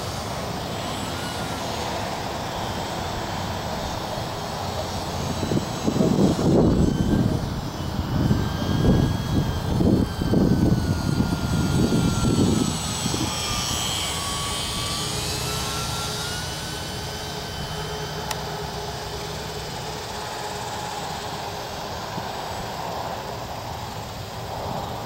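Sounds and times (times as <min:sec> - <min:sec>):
rc plane motor whining: 0:00.0 - 0:25.0.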